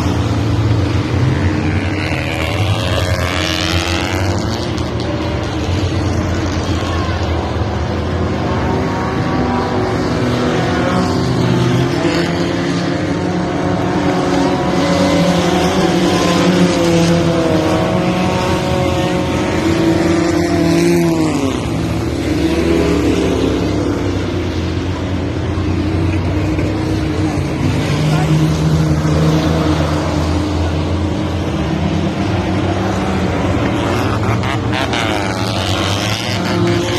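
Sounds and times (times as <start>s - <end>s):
racing car engines: 0.0s - 36.9s.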